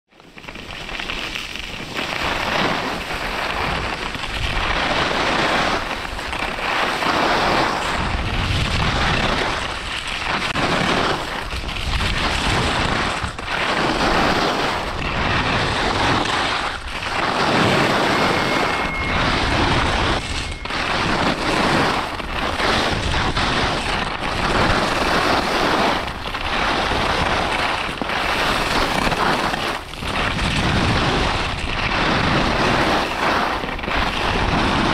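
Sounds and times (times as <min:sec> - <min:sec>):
skis scraping on icy snow: 0:00.2 - 0:34.9
wind rumbling on microphone: 0:00.3 - 0:34.9.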